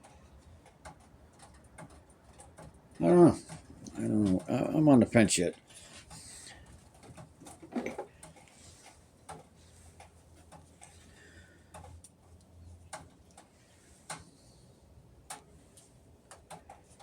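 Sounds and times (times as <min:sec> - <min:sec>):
light clicks of metal parts: 0:00.0 - 0:17.0.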